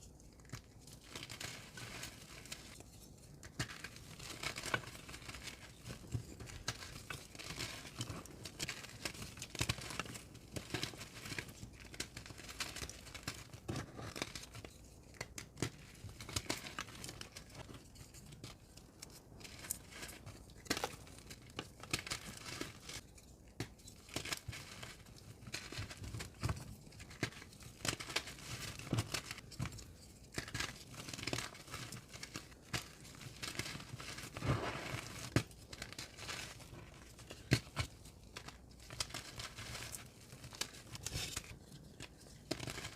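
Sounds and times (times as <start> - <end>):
chalk crunching and crackling: 0.2 - 42.9.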